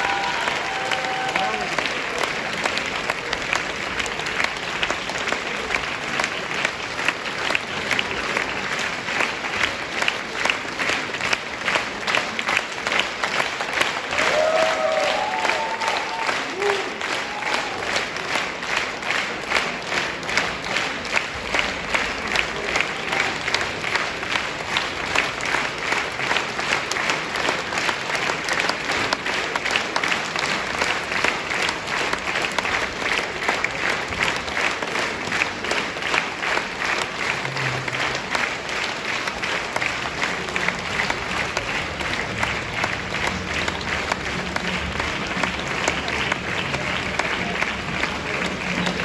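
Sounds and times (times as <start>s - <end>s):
audience applauding: 0.0s - 49.0s.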